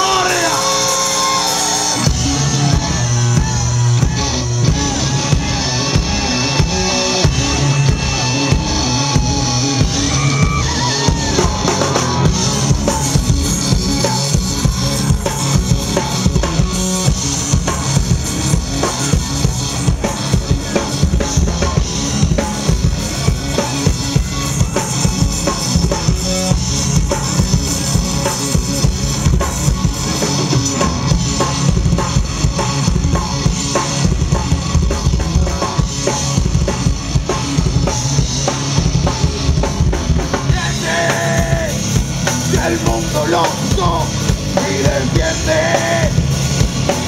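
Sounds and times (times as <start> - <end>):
fast driving drum kit: 0.0 - 47.0
rock band playing: 0.0 - 47.0.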